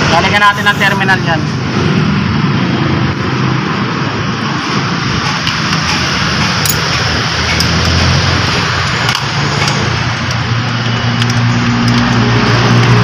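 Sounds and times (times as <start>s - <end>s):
engine running with hiss: 0.0s - 13.0s.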